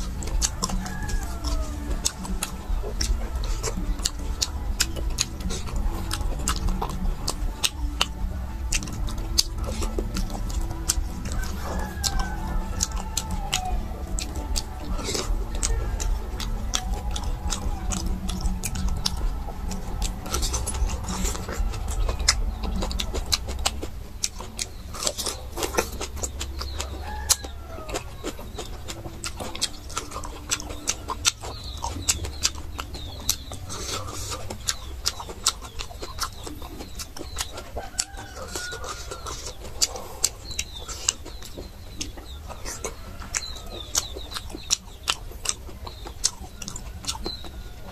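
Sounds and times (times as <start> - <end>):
birds calling: 0.0 - 47.9
chewing and gnawing on bones: 0.0 - 47.9.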